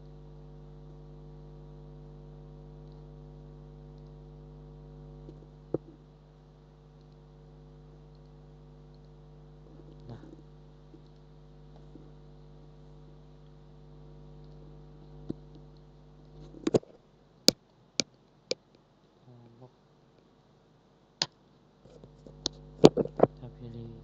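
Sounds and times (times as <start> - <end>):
buzzy electrical hum: 0.0 - 24.0.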